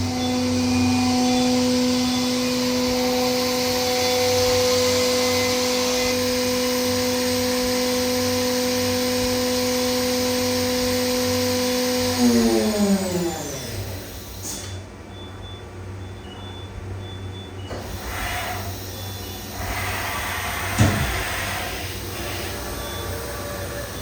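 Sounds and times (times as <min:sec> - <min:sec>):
machine spindle whine: 0:00.0 - 0:24.0.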